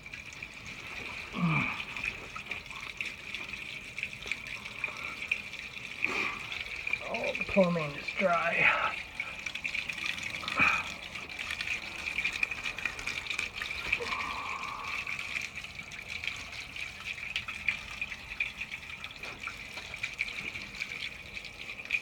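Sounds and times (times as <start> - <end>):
water trickling through pipes: 0.0 - 22.0.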